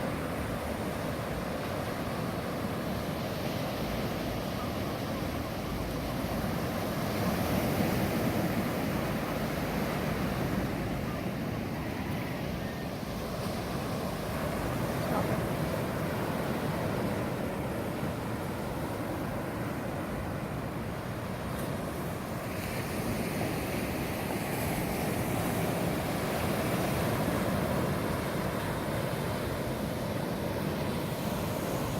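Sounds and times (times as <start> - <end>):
ocean waves breaking on beach: 0.0 - 31.9.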